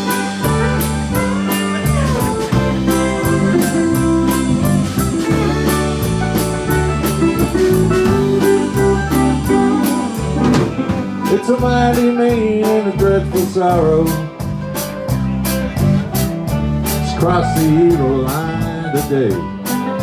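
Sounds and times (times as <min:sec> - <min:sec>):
bass line: 0:00.0 - 0:20.0
drum kit beat: 0:00.0 - 0:20.0
guitars: 0:00.0 - 0:20.0.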